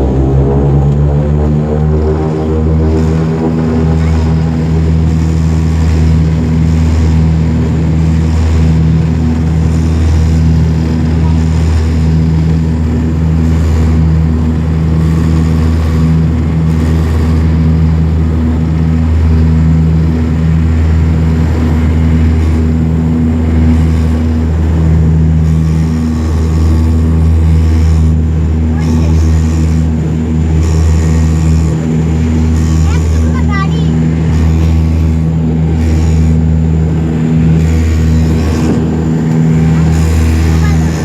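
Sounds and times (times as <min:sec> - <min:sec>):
turboprop engines droning: 0:00.0 - 0:41.0.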